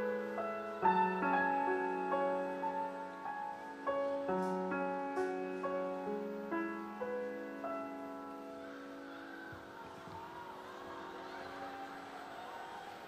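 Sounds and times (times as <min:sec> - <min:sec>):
grand piano playing: 0:00.0 - 0:12.4.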